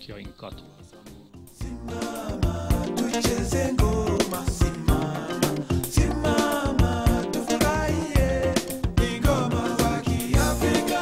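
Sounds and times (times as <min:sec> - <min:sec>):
steady drum beat: 0:01.6 - 0:11.0.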